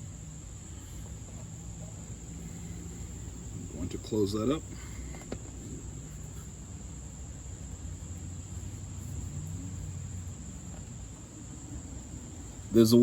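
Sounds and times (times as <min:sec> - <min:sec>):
crickets chirring: 0:00.0 - 0:13.0
low background hum: 0:00.0 - 0:13.0.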